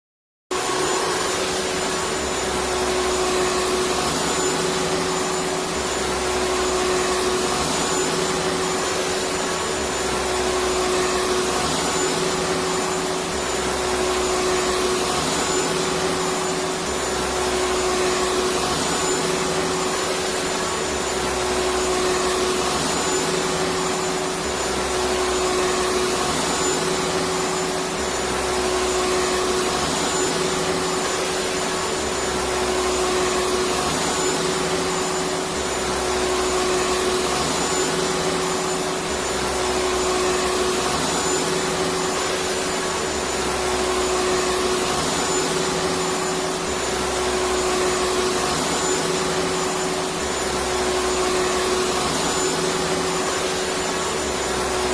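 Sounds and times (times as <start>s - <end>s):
vacuum cleaner running: 0.5s - 54.9s.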